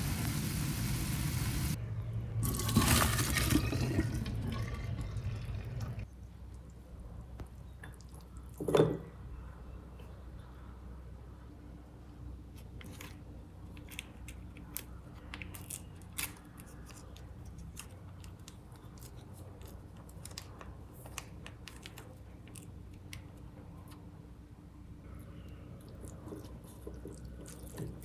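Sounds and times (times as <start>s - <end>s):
faint low hum: 1.7s - 28.0s.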